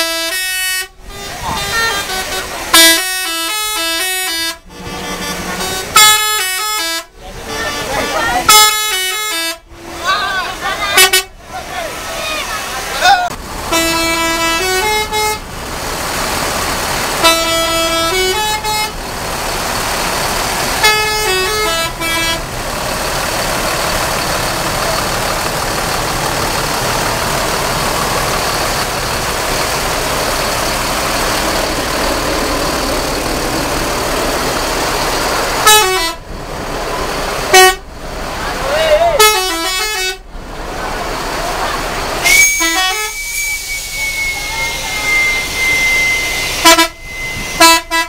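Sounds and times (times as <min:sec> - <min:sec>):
bus multi-tone horn melody: 0:00.0 - 0:15.7, 0:16.4 - 0:40.3, 0:41.8 - 0:48.0.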